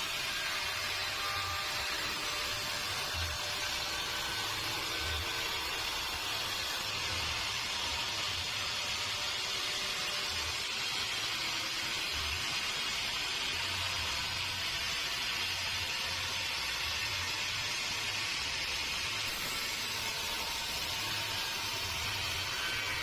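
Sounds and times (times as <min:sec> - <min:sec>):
sawmill machinery hissing: 0:00.0 - 0:23.0.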